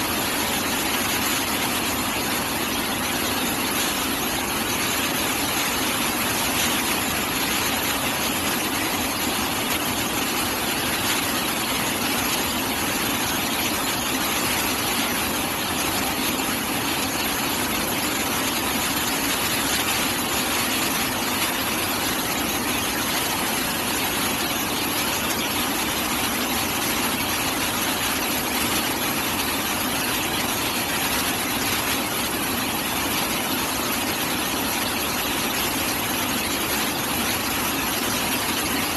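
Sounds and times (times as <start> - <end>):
rock drilling rig running: 0.0 - 38.9.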